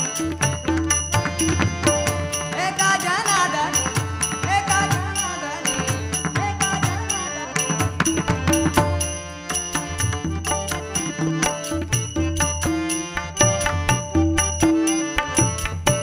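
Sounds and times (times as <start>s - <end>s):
percussion beat: 0.0s - 16.0s
person singing devotional song: 0.0s - 16.0s.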